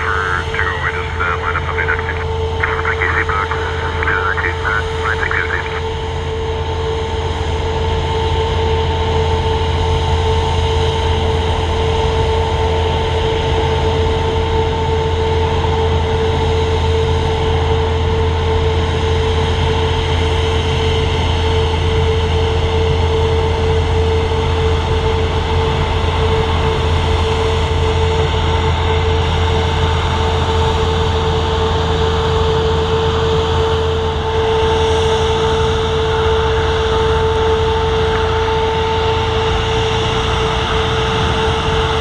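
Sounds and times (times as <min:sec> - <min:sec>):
jet engines idling: 0:00.0 - 0:42.0.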